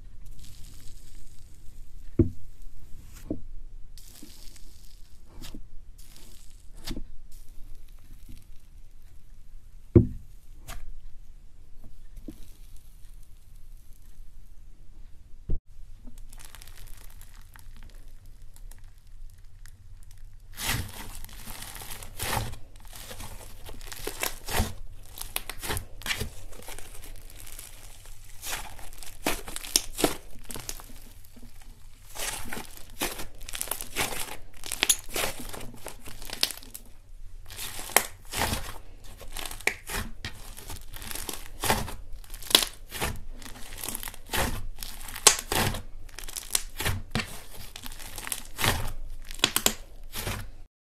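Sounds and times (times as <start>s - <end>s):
slime crackling and popping: 0.2s - 1.8s, 4.0s - 9.0s, 16.1s - 50.7s.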